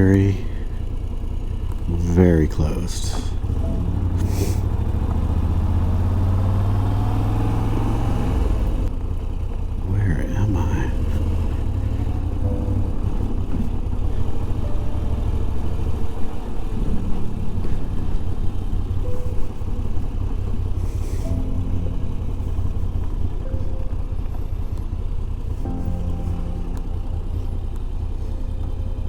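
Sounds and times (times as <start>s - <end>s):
motorcycle engine rumbling: 0.0s - 29.0s.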